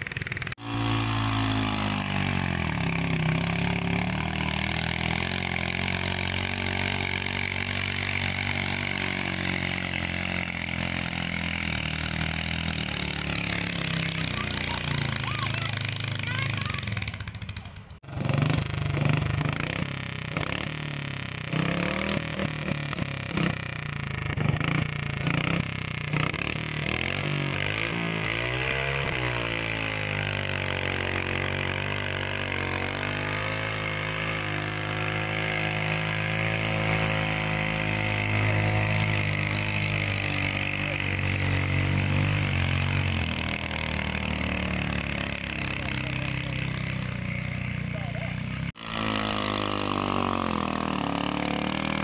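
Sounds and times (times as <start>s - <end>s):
tractor engine at high revs: 0.0s - 52.0s.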